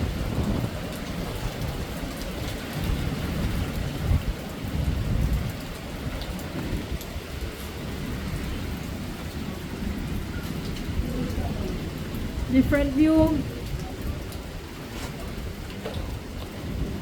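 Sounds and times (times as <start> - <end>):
gusty wind rumble: 0.0 - 17.0
heavy rain hiss: 0.0 - 17.0.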